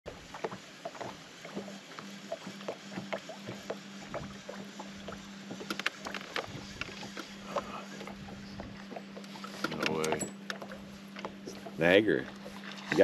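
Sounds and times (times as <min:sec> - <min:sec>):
steady low hum: 0:00.1 - 0:13.0
waves lapping against boat hull: 0:00.1 - 0:13.0.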